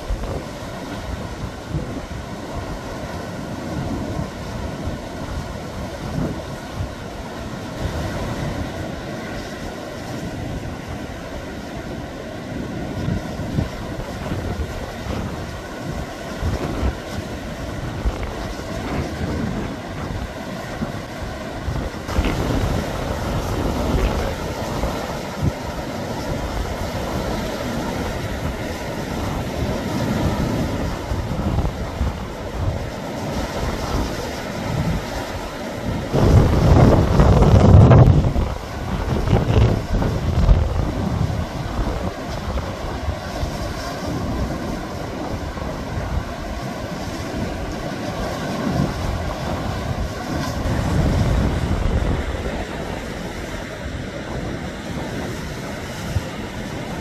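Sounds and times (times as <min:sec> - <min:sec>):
sea waves breaking on rocks: 0:00.0 - 0:57.0
wind buffeting microphone: 0:00.0 - 0:57.0.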